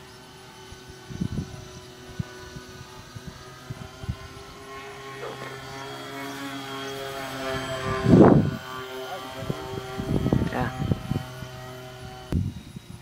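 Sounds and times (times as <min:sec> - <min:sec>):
electric motors whining: 0:00.0 - 0:13.0
rush of plane passing overhead: 0:00.0 - 0:13.0.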